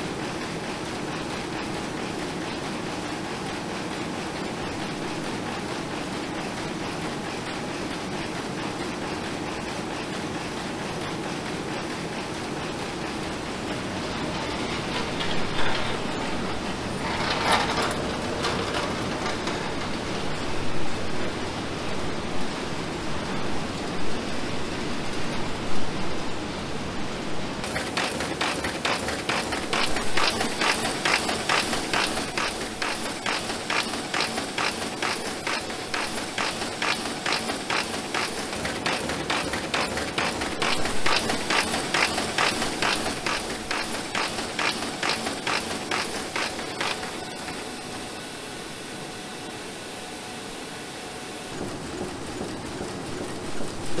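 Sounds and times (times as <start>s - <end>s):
machine clattering: 0.0s - 21.6s, 27.6s - 49.2s, 51.3s - 54.0s
steady machine hum: 0.0s - 23.8s, 27.4s - 54.0s.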